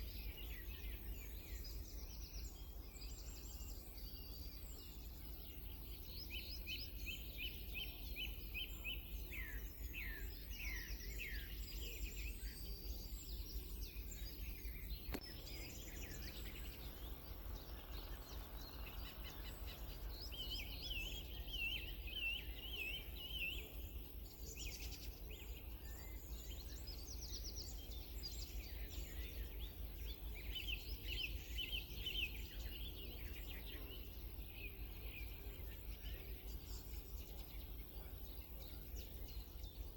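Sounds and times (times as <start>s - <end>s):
small songbirds singing: 0.0s - 39.9s.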